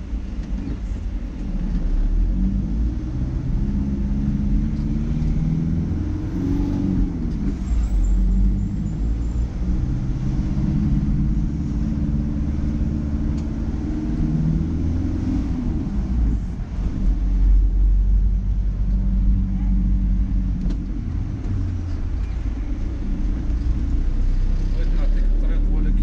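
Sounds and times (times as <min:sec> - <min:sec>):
car engine humming: 0:00.0 - 0:26.0
road rumble: 0:00.0 - 0:26.0.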